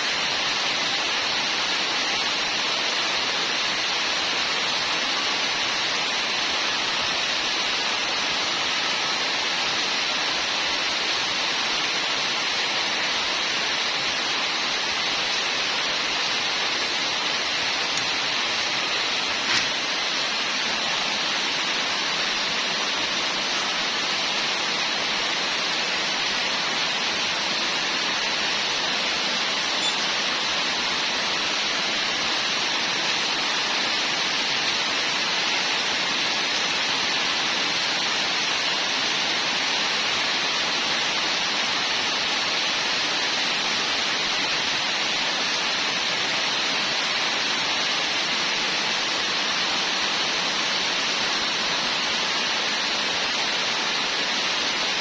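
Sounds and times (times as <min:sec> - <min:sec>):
steady hissing noise: 0:00.0 - 0:55.0.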